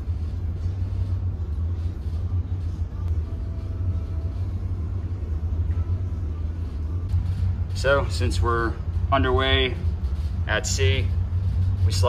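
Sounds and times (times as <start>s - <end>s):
ship engine deep hum: 0.0s - 12.0s.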